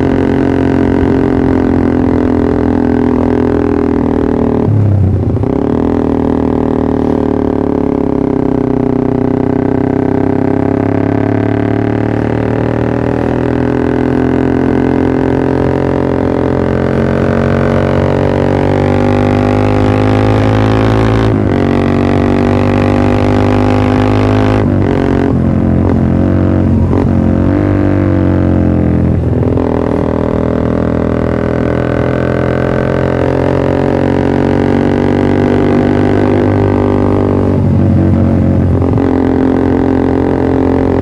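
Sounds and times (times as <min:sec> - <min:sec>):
motorcycle exhaust droning: 0:00.0 - 0:41.0.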